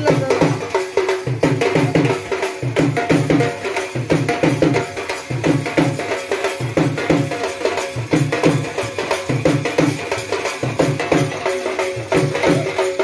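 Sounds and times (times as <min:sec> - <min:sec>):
driving drum beat: 0:00.0 - 0:13.0
live band playing dance music: 0:00.0 - 0:13.0.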